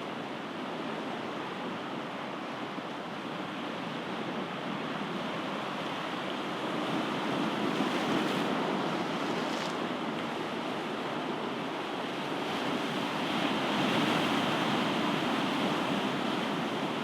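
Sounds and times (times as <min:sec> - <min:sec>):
ocean waves breaking on shore: 0:00.1 - 0:17.0.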